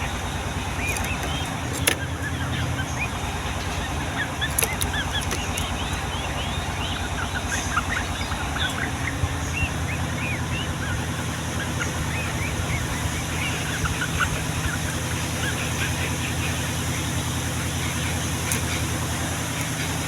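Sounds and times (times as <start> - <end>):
birds chirping and bubbling: 0.0 - 20.0
steady low rumble: 0.0 - 20.0.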